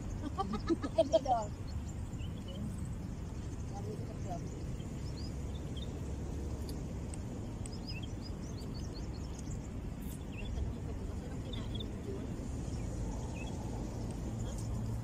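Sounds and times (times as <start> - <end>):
birds chirping: 0.0 - 15.0
low background rumble: 0.0 - 15.0.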